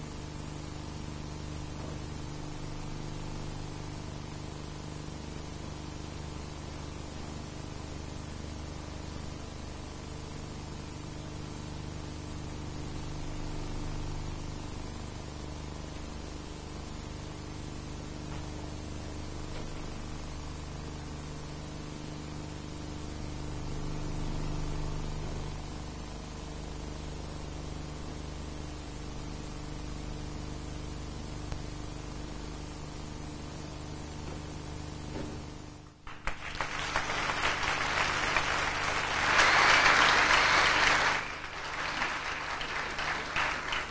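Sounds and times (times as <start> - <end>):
old recording hiss and hum: 0.0 - 43.9.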